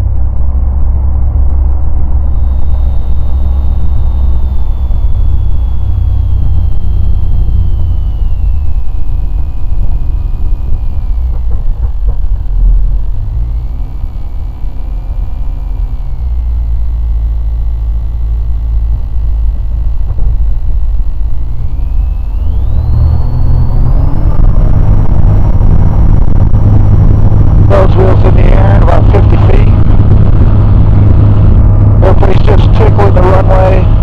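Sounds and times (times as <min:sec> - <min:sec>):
light aircraft engine and propeller: 0:00.0 - 0:34.0.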